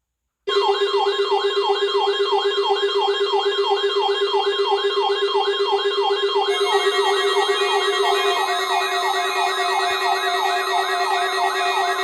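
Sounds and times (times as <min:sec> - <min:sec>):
warbling siren-like alert tone: 0:00.5 - 0:12.0.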